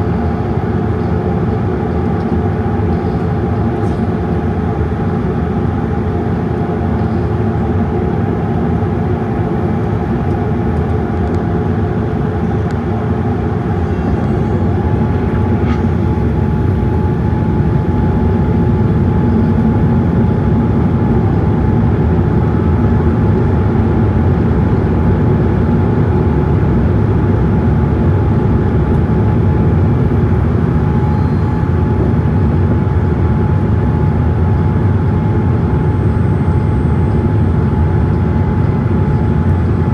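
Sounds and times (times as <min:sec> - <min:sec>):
jet noise in aircraft cabin: 0:00.0 - 0:39.9.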